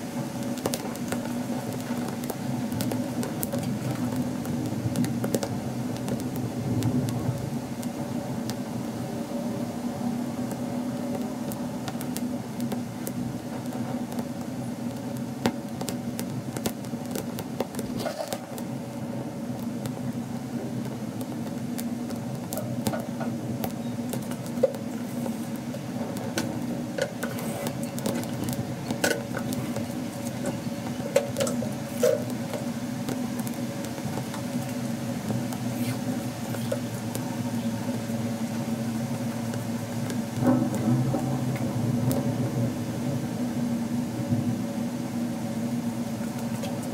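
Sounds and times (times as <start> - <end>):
embers crackling and ticking: 0.0 - 46.9
low mechanical hum: 0.0 - 46.9.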